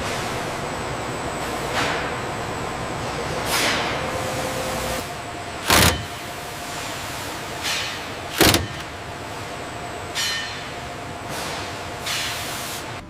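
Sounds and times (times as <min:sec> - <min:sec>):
industrial machinery noise: 0:00.0 - 0:13.0.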